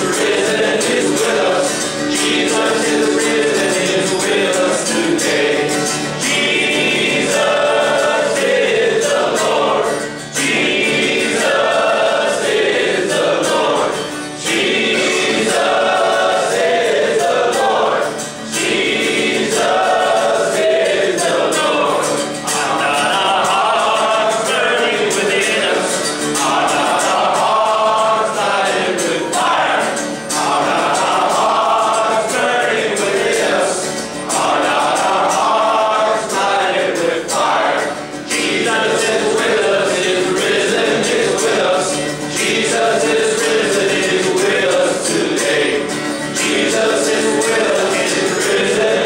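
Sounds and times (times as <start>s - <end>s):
acoustic guitar: 0.0s - 49.0s
group of men singing: 0.0s - 49.0s.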